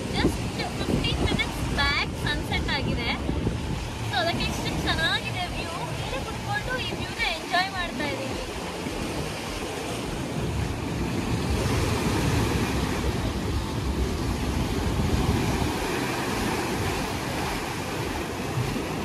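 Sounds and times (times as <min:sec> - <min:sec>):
waves breaking on rocky shore: 0:00.0 - 0:19.0
wind gusting on microphone: 0:00.0 - 0:19.0.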